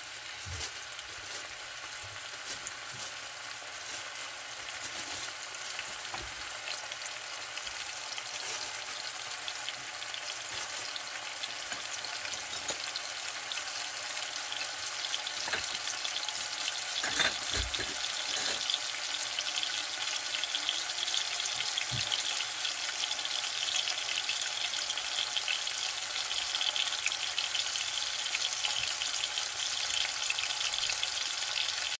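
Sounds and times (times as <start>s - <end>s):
meat sizzling in a pan: 0.0s - 32.0s.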